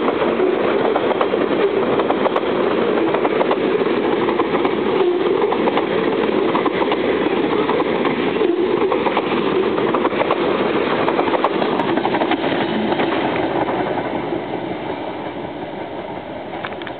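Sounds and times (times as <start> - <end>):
freight train wheels rumbling: 0.0 - 16.9
train clicks and clanks: 0.0 - 16.9.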